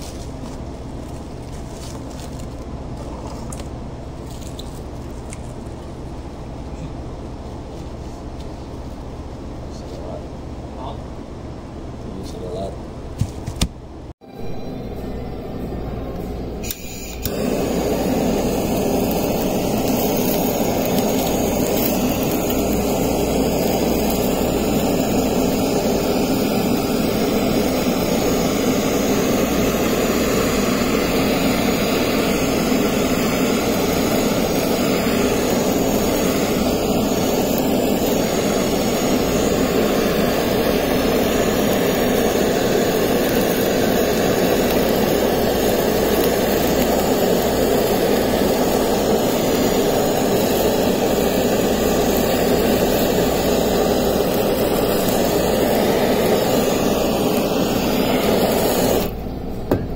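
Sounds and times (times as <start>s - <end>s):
gas torch hissing: 0.0s - 7.0s, 14.1s - 59.7s.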